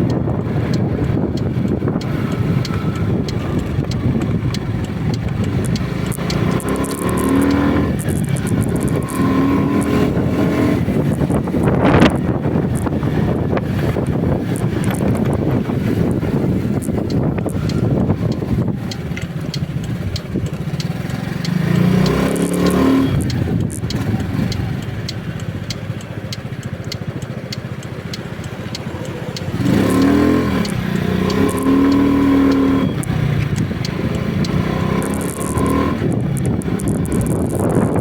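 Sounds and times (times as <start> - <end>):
sharp ticks: 0.0 - 38.0
vehicle engine revving: 0.0 - 38.0
wind and road noise: 0.0 - 38.0.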